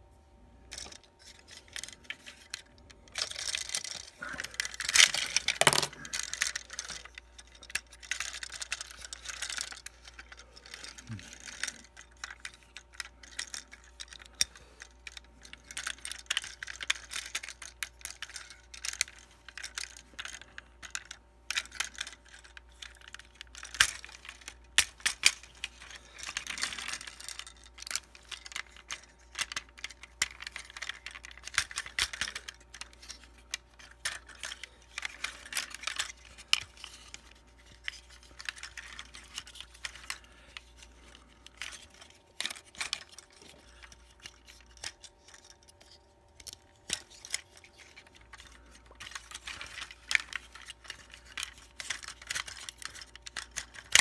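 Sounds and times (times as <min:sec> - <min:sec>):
plastic parts scraping: 0:00.6 - 0:54.0
plastic toy parts clicking: 0:00.7 - 0:54.0.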